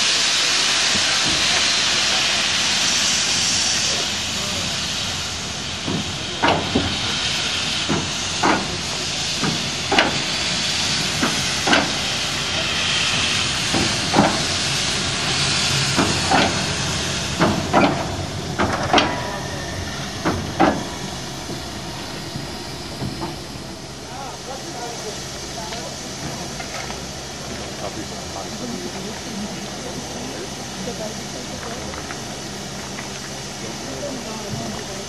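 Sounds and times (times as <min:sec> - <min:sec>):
hiss of escaping steam: 0:00.0 - 0:35.0.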